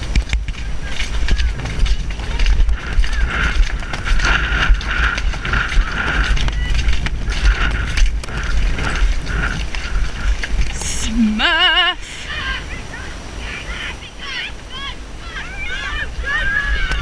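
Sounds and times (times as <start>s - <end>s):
horse tack creaking and clicking: 0.0s - 13.0s, 15.2s - 17.0s
wind rumble on microphone: 0.0s - 17.0s.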